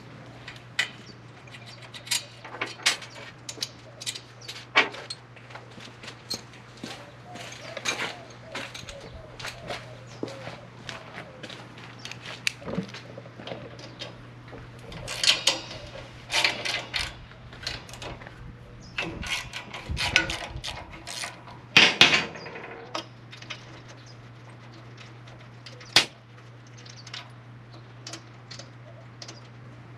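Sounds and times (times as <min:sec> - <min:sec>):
steady low hum: 0:00.0 - 0:29.9
metal tools clanking: 0:00.4 - 0:05.3, 0:06.1 - 0:10.4, 0:12.0 - 0:29.5.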